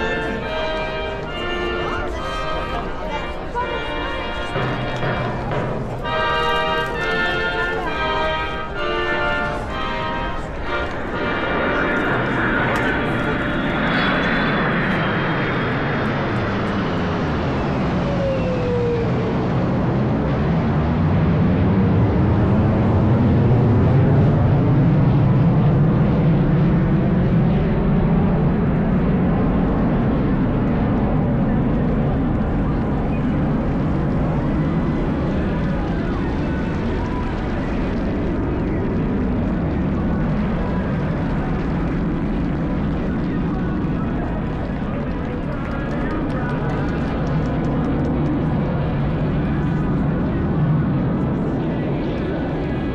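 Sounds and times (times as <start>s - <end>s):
aircraft engines flying past: 0.0s - 52.9s.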